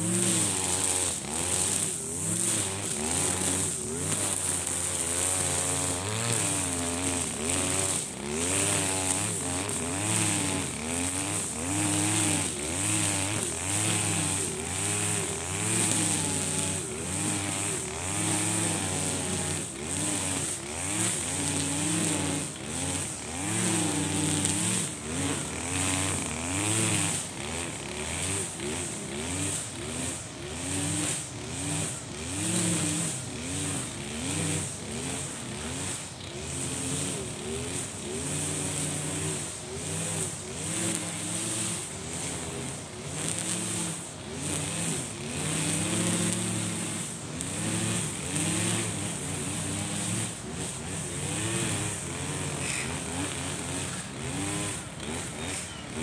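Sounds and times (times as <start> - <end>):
brush cutter cutting grass: 0.0 - 56.0.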